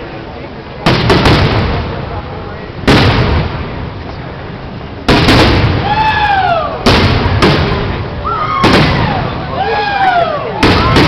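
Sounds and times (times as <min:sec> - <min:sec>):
fireworks bursting with bangs: 0:00.7 - 0:09.5, 0:10.5 - 0:11.0.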